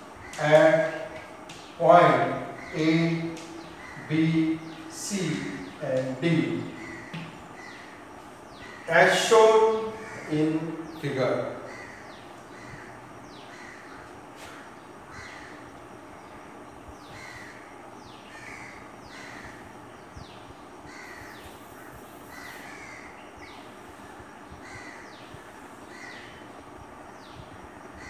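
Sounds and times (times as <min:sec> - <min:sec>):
crows cawing: 0:00.0 - 0:16.4, 0:17.0 - 0:26.6
steady background hiss: 0:00.0 - 0:28.0.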